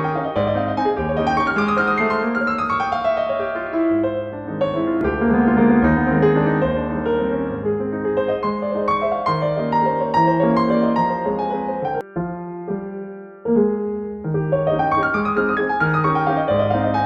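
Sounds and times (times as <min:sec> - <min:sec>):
background piano music: 0:00.0 - 0:17.0.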